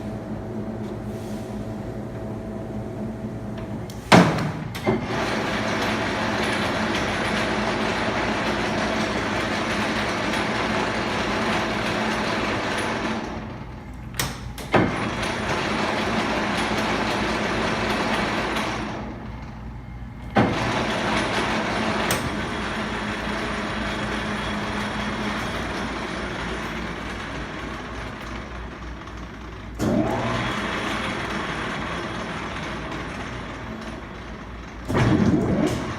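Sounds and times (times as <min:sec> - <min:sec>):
lathe whirring hum: 0:00.0 - 0:35.9.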